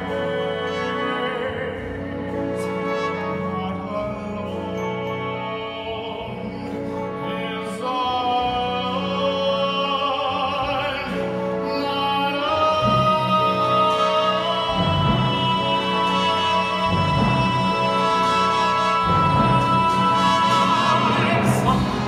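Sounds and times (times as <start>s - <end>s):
man singing with vibrato: 0.0s - 22.0s
symphony orchestra playing: 0.0s - 22.0s.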